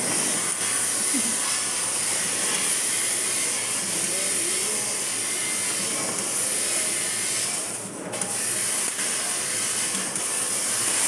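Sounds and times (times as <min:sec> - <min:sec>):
machine running noise: 0:00.0 - 0:11.0.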